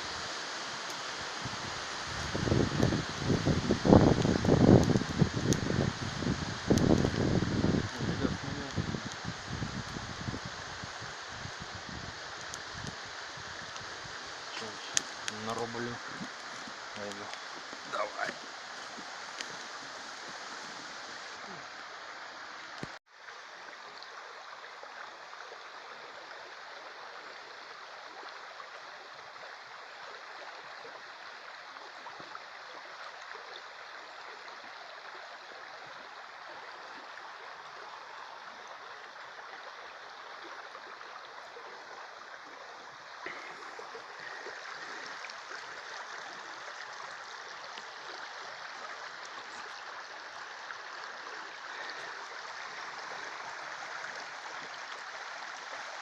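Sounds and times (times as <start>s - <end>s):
river water rushing over stones: 0.0s - 56.0s.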